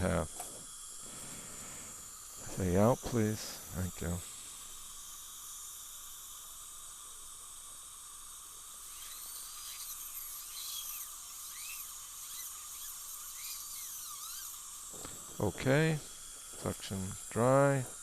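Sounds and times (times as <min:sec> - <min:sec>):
dental drill whining: 0:00.0 - 0:18.0.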